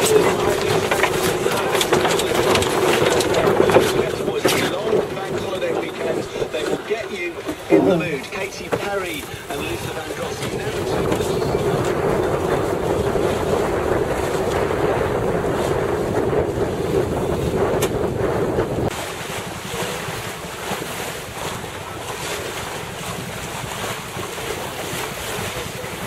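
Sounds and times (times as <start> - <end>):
water washing past hull: 0.0 - 26.0
wind buffeting microphone: 0.0 - 26.0.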